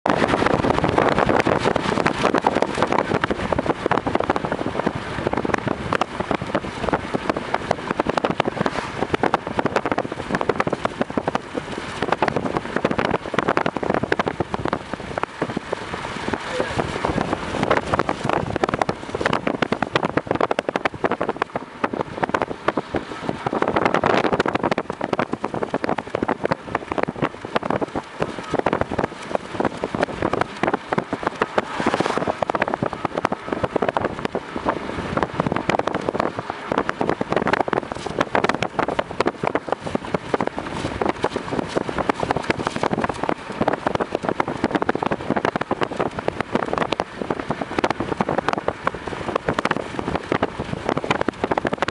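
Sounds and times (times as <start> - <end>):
car road and wind noise: 0.0 - 51.9.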